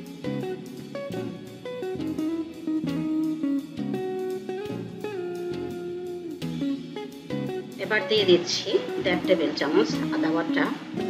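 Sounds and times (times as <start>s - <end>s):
plucked-string melody: 0.0s - 11.0s.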